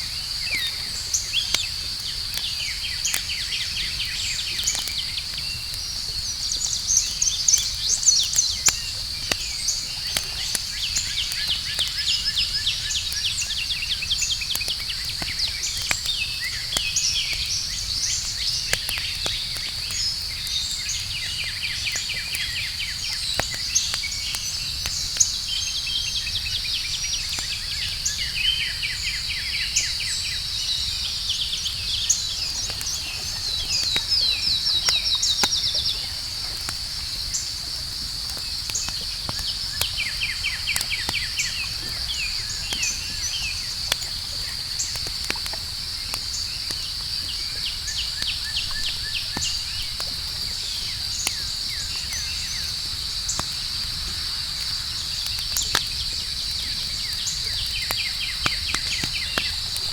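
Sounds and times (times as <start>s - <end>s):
campfire crackling and popping: 0.0s - 59.9s
night insects chorus: 0.0s - 59.9s.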